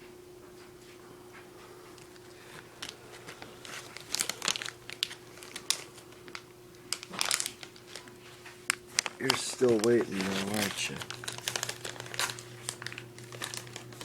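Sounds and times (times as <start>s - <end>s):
faint steady hum: 0.0s - 14.0s
food bag crinkling: 2.0s - 14.0s.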